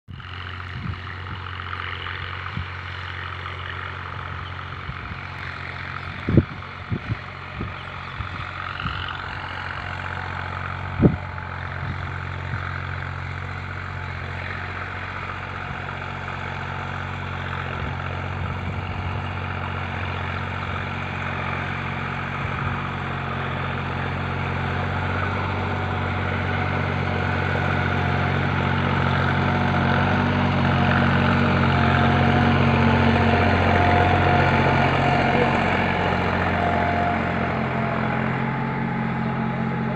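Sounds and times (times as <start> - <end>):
tractor diesel engine idling: 0.1 - 39.9.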